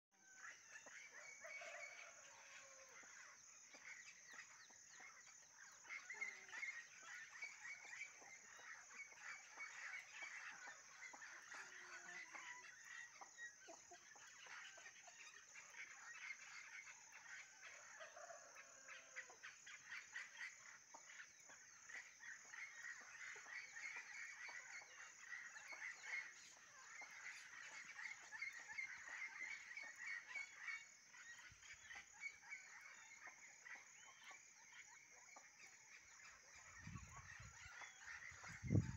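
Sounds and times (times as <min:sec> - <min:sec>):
insects and frogs chorus: 0:00.2 - 0:38.9.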